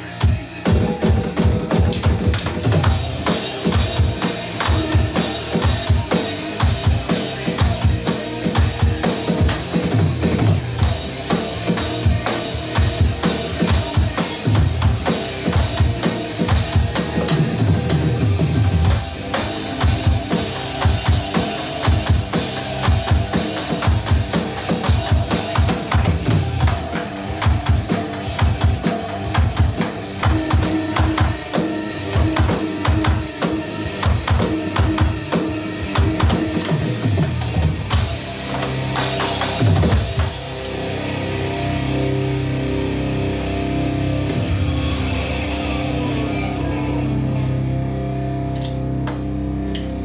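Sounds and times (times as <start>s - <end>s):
electronic drum kit playing: 0.0s - 46.4s, 48.5s - 50.0s
heavy rock backing track: 0.0s - 50.0s.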